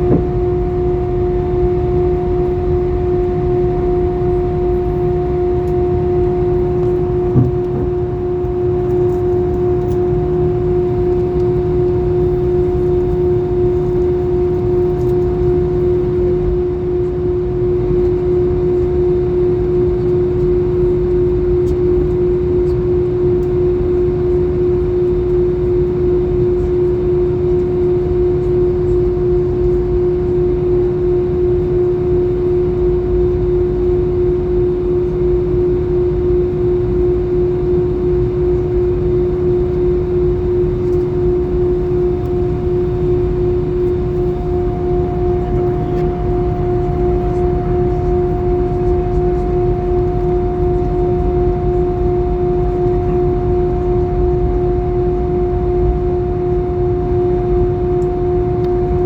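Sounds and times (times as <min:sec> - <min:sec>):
airplane cabin engine hum: 0:00.0 - 0:59.0.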